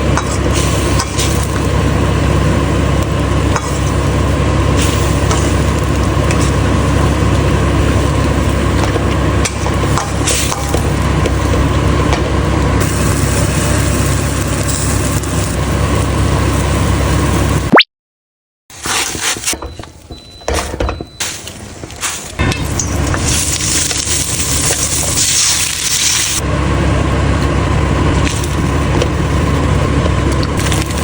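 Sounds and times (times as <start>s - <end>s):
stovetop cooking rumble: 0.0s - 17.6s, 20.1s - 31.0s.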